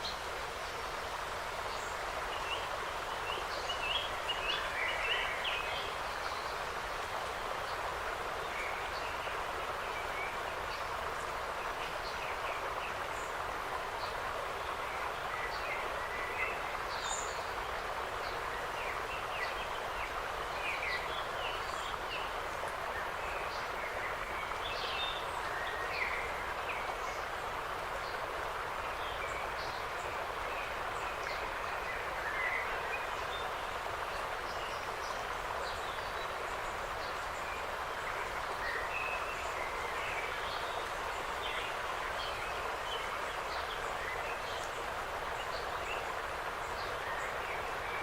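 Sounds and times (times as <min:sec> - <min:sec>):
wind in the trees: 0:00.0 - 0:48.0.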